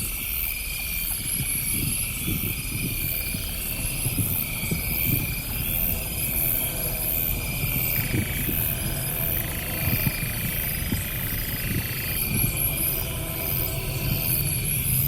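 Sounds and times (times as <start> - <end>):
insect chirping: 0.0 - 15.0
wind buffeting microphone: 1.2 - 15.0.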